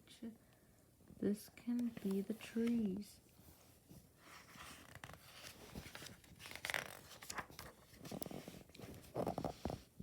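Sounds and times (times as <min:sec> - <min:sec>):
book pages being handled: 0:01.7 - 0:10.0.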